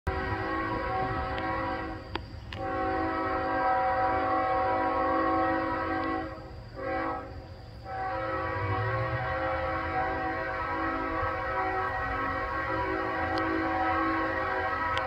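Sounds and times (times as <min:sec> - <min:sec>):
locomotive air horn blasts: 0:00.1 - 0:15.0
low train rumble: 0:00.1 - 0:15.0.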